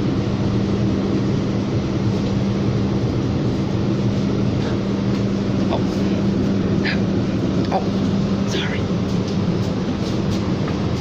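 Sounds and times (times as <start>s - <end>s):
streetcar cabin drone: 0.0s - 11.0s.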